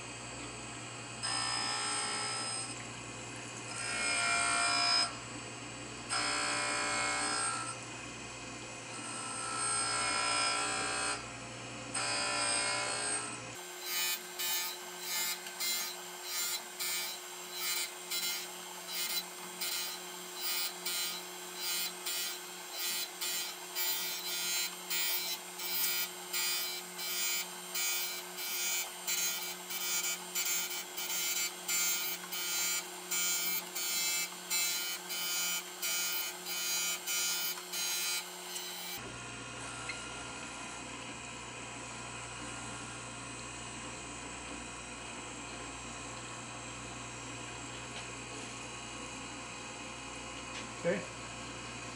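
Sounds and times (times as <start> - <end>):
machine spindle hum: 0.0 - 51.9.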